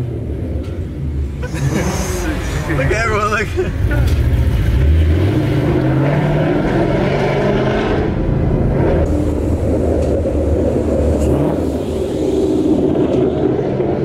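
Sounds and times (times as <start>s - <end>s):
car engine deep exhaust rumble: 0.0s - 14.0s.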